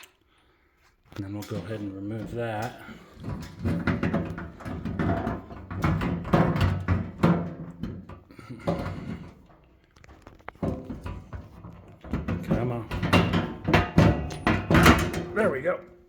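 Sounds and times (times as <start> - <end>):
metal cover rattling: 1.4 - 16.0.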